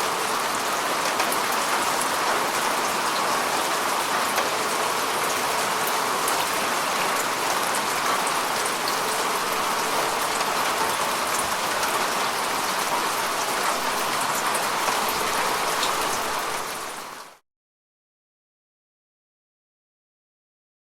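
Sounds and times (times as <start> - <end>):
steady rain hiss: 0.0 - 17.4.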